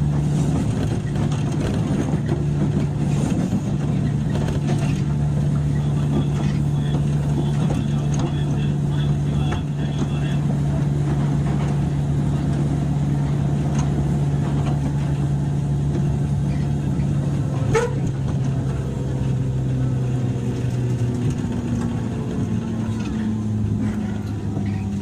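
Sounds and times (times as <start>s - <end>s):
train motor and gear hum: 0.0s - 25.0s
wheel and rail rumble: 0.0s - 25.0s.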